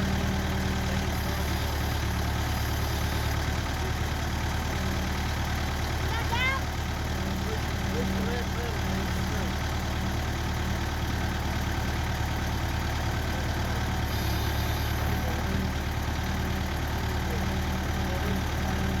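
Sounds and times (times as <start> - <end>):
backhoe engine idling: 0.0 - 19.0.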